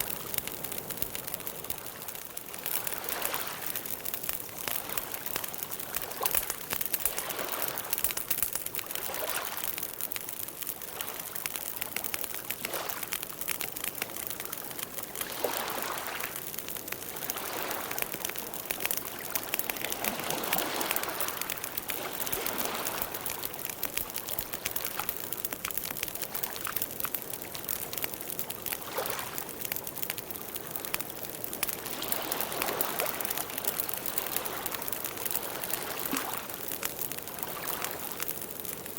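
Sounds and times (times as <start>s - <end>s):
campfire crackling and popping: 0.0s - 38.9s
rushing flames: 0.0s - 38.9s.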